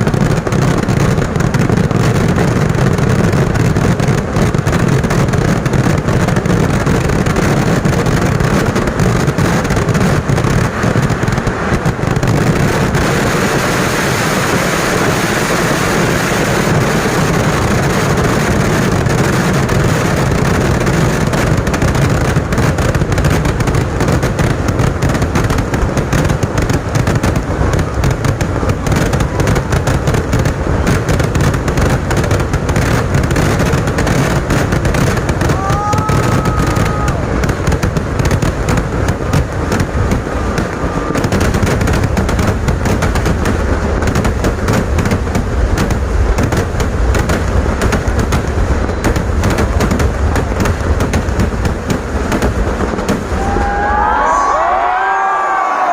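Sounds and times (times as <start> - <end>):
firecracker explosions crackling: 0.0 - 55.9.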